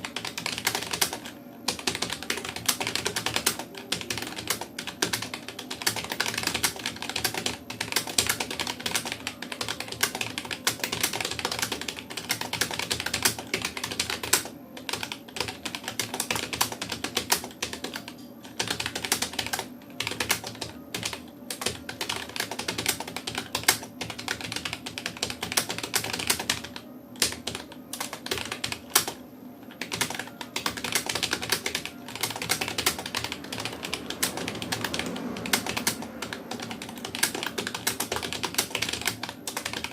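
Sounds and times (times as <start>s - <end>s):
fast typing on keyboard: 0.0s - 29.2s, 29.8s - 39.9s.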